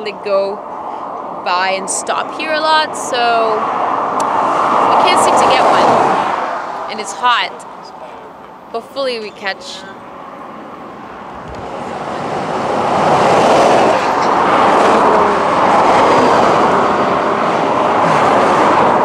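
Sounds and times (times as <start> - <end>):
cars passing on highway: 0.0 - 19.0.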